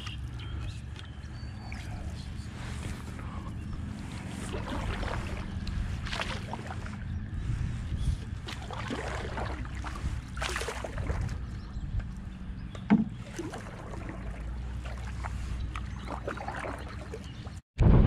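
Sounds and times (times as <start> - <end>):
wind rumble on microphone: 0.0 - 18.0
paddle strokes splashing water: 1.7 - 11.6, 12.9 - 17.6.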